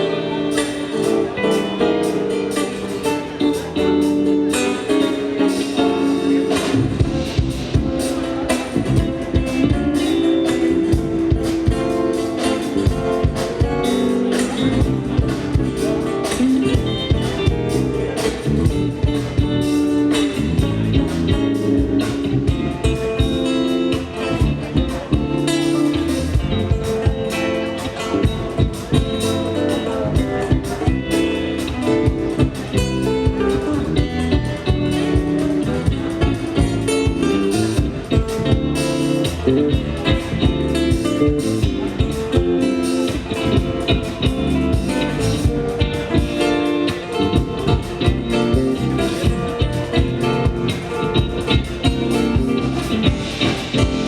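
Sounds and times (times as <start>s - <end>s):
live band music with steady beat: 0.0s - 54.0s.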